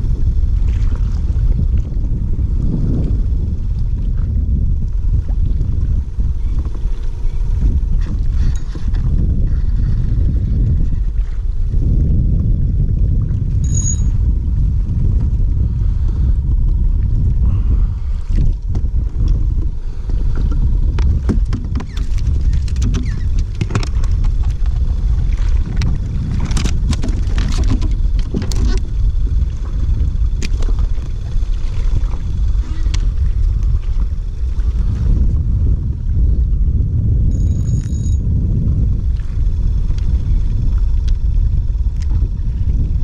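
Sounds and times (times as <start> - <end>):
wind buffeting the microphone: 0.0 - 43.0.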